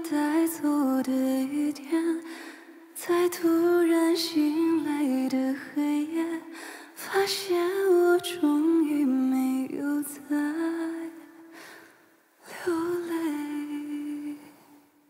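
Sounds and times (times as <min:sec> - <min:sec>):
woman singing a ballad: 0:00.0 - 0:11.8, 0:12.4 - 0:14.9.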